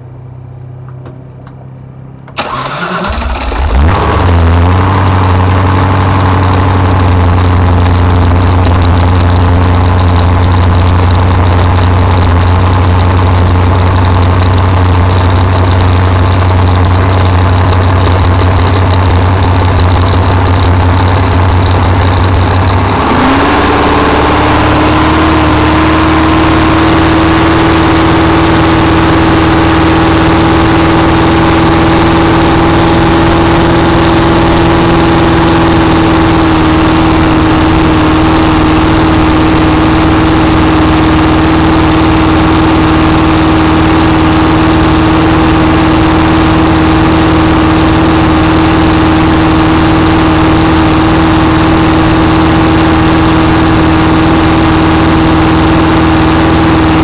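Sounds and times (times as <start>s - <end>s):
boat engine running: 0.8s - 57.0s.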